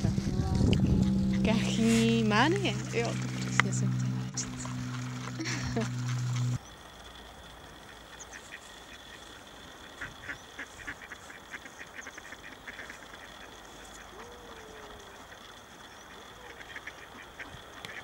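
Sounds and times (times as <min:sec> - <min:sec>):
ducks quacking: 0:00.0 - 0:06.6, 0:07.8 - 0:18.0.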